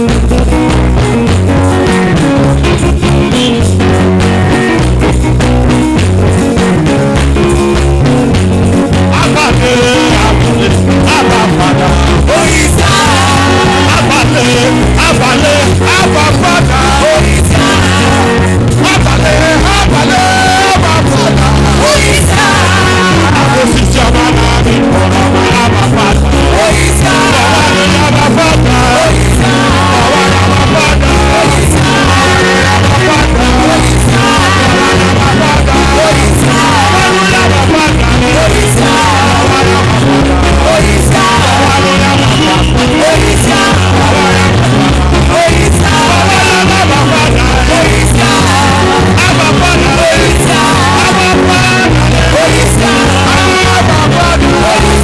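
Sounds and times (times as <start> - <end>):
song with bass line and beat: 0.0 - 55.0.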